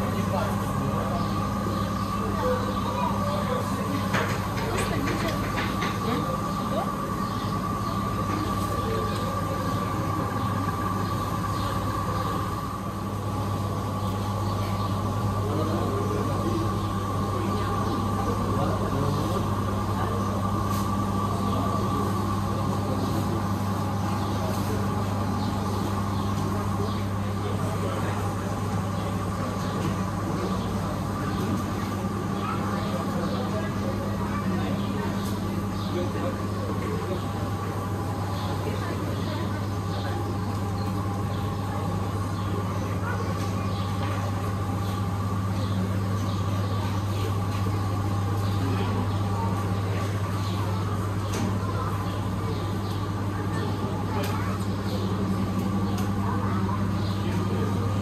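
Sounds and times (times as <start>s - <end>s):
indistinct store activity: 0.0s - 58.0s
refrigeration machinery hum: 0.0s - 58.0s.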